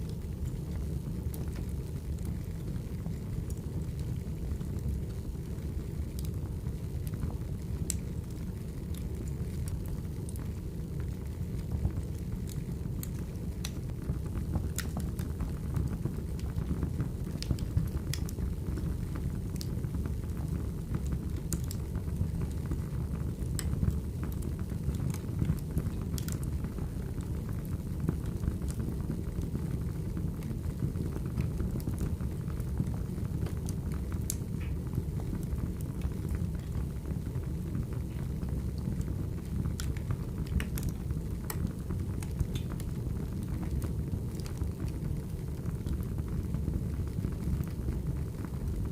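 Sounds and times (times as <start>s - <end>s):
firewood crackling and popping: 0.0s - 48.9s
low rumble of fire: 0.0s - 48.9s.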